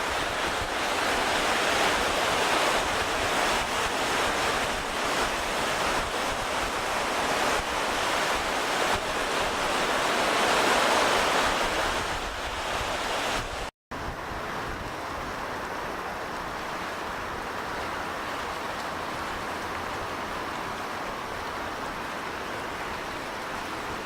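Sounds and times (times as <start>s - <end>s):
rushing surf: 0.0s - 24.0s.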